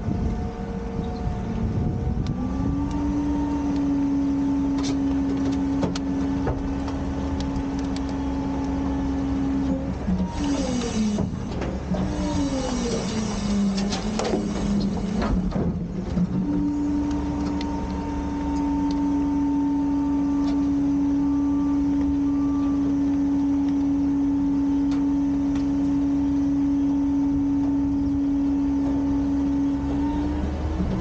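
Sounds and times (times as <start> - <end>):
hydraulic pump whining: 0.0 - 31.0
truck engine rumbling: 0.0 - 31.0.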